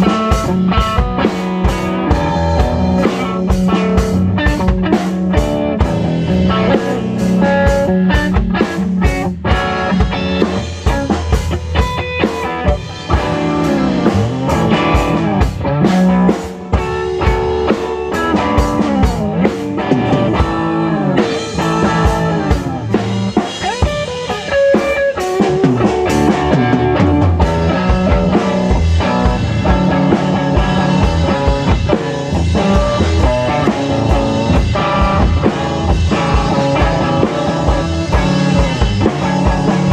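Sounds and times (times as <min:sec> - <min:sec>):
bass guitar: 0:00.0 - 0:39.9
drum kit beat: 0:00.0 - 0:39.9
electric guitar bending lines: 0:00.0 - 0:39.9.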